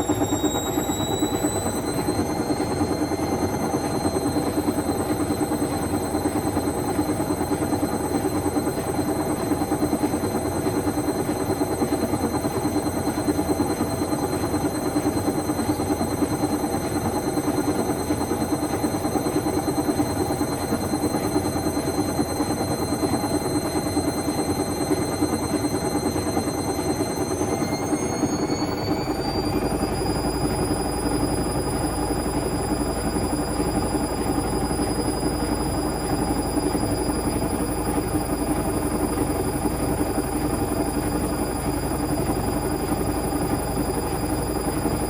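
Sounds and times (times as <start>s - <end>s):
washing machine spinning: 0.0s - 45.0s.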